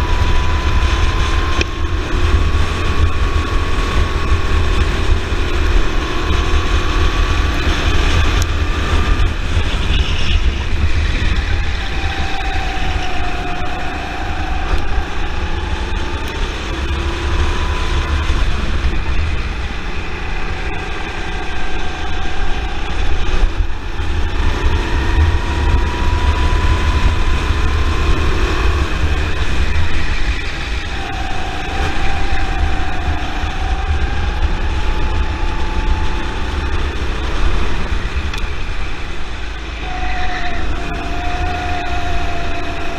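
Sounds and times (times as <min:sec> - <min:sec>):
go-kart engine running: 0:00.0 - 0:42.9
wind rumble on microphone: 0:00.0 - 0:42.9.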